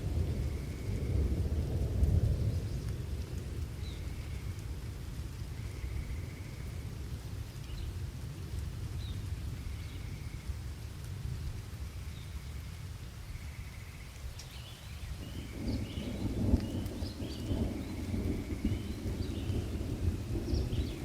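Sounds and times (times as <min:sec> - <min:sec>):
low rumble of thunder: 0:00.0 - 0:21.0
steady rain: 0:00.0 - 0:21.0.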